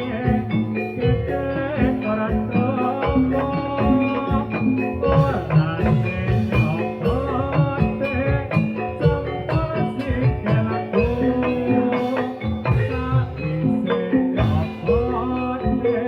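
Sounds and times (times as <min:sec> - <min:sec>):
steady drum strokes: 0:00.0 - 0:15.8
ringing metallophone notes: 0:00.0 - 0:16.0.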